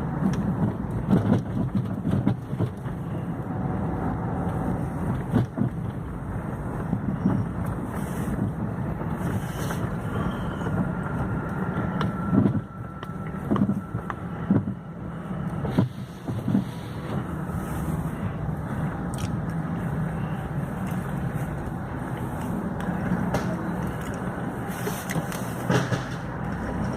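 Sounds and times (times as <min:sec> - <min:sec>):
car engine rumbling: 0:00.0 - 0:26.9.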